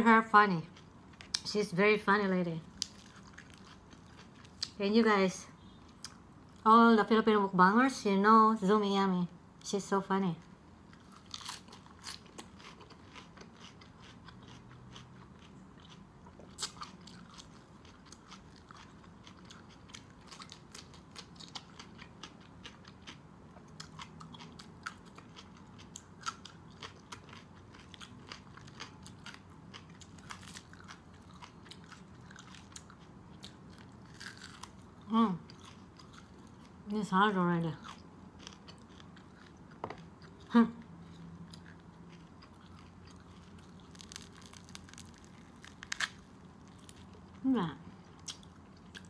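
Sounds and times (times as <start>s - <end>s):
chewing crisp vegetables: 0.0s - 7.4s, 10.0s - 49.0s.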